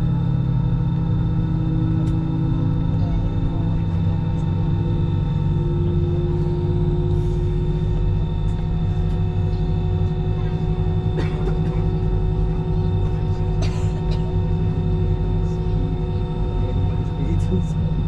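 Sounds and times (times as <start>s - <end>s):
airliner cabin hum: 0.0s - 18.0s.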